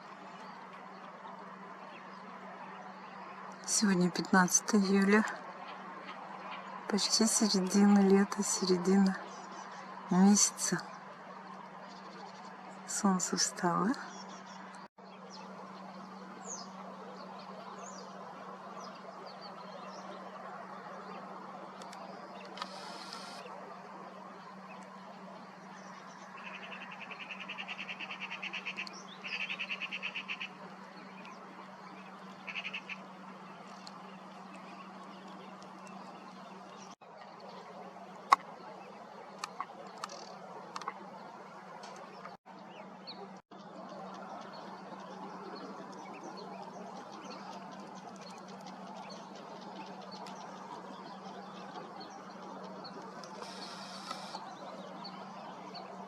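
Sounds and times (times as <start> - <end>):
birds calling: 0.0 - 56.0.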